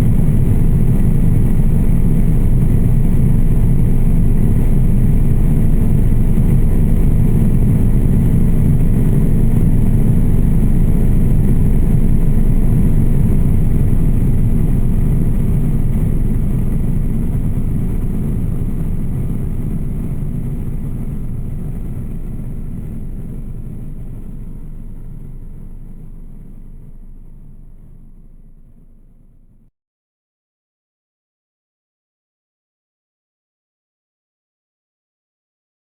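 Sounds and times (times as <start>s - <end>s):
aircraft engine drone: 0.0s - 29.6s.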